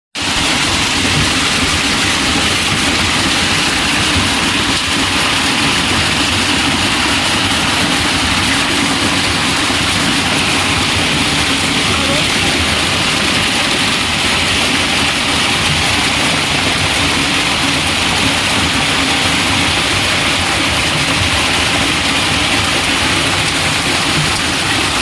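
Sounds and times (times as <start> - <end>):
heavy rain falling: 0.2 - 25.0.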